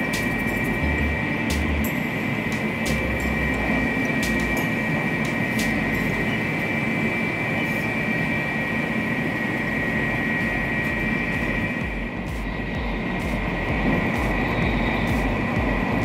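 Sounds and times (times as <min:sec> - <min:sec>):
high whine: 0:00.0 - 0:16.0
train cabin rush and rumble: 0:00.0 - 0:16.0.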